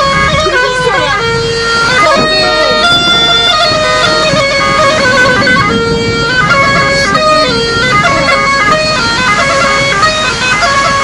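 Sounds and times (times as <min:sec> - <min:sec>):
bagpipe melody over drone: 0:00.0 - 0:11.0.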